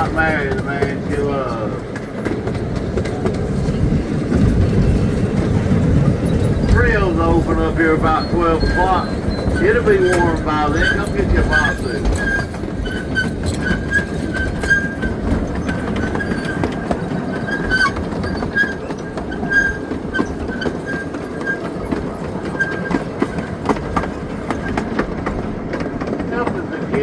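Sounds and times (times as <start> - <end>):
rumble of moving train cars: 0.0 - 27.0.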